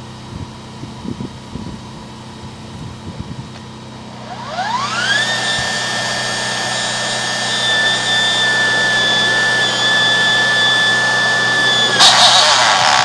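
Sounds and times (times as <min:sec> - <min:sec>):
drain cleaning machine whine: 0:00.0 - 0:13.0.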